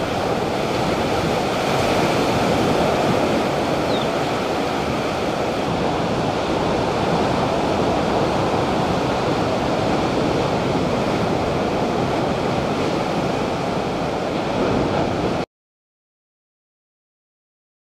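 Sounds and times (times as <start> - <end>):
ocean surf breaking on beach: 0.0 - 15.4.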